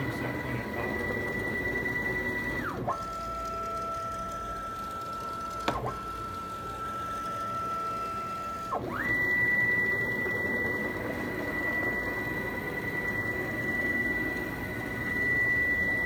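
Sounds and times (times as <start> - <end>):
router spindle high whine: 0.0 - 16.0.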